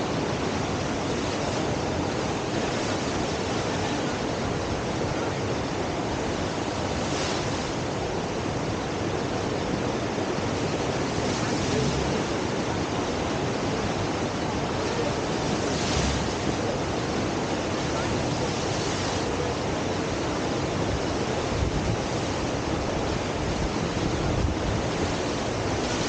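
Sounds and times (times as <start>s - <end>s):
water splashes: 0.0s - 26.0s
whitewater rushing: 0.0s - 26.0s.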